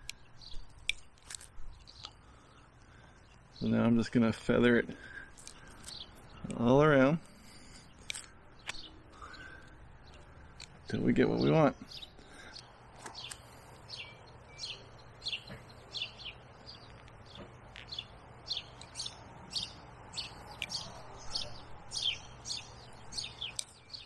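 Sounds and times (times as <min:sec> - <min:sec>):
small bird chirping: 0:00.0 - 0:03.8, 0:05.3 - 0:24.0.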